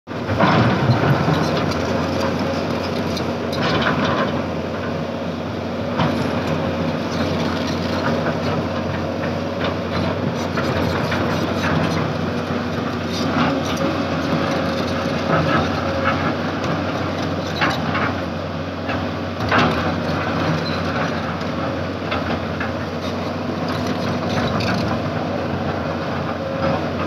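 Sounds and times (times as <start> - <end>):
diesel engine hum: 0.1 - 27.0
excavator clanking: 0.2 - 27.0.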